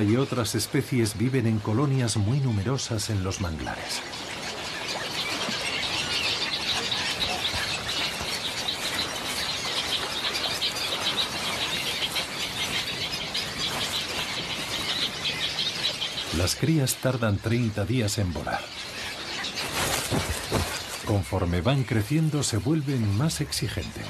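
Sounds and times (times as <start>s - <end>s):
birds squealing calls: 0.0s - 24.0s.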